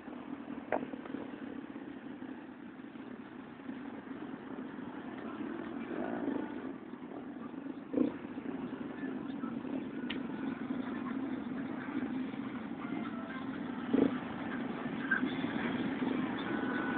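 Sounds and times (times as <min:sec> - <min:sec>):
vehicle engines droning: 0:00.0 - 0:16.9.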